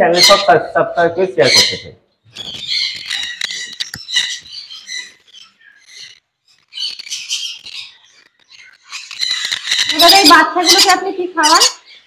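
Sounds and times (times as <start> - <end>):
parrots squawking: 0.0 - 0.7, 1.4 - 12.0.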